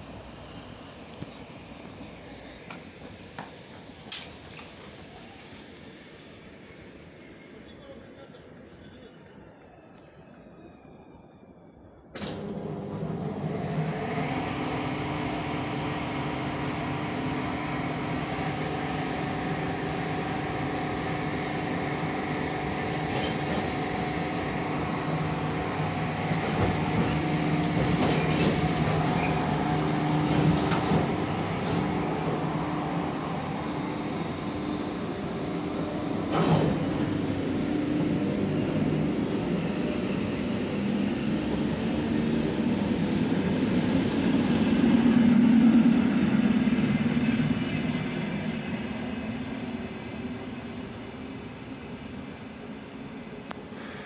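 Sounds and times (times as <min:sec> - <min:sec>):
electric train running past: 0:00.0 - 0:54.0.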